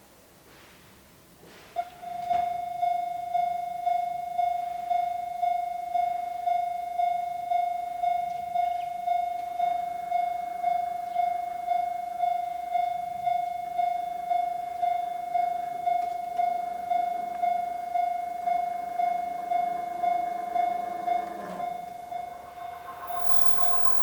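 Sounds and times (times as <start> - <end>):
level crossing warning alarm: 2.1 - 24.0
train approaching: 3.1 - 24.0.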